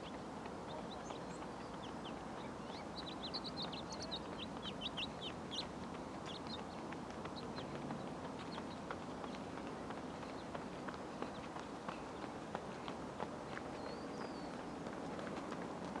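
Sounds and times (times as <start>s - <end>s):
small birds chirping: 0.0s - 15.9s
faint outdoor background: 0.0s - 16.0s.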